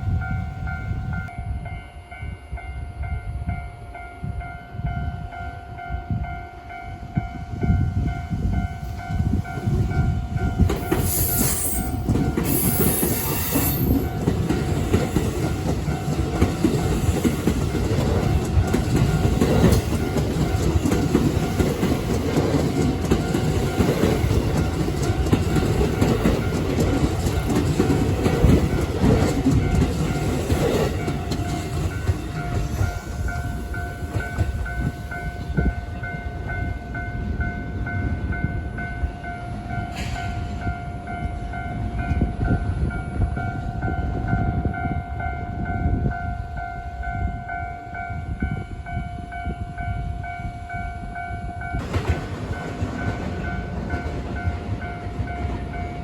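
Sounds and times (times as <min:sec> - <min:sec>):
crossing warning bell ringing: 0:00.0 - 0:56.0
electric train passing: 0:00.0 - 0:56.0.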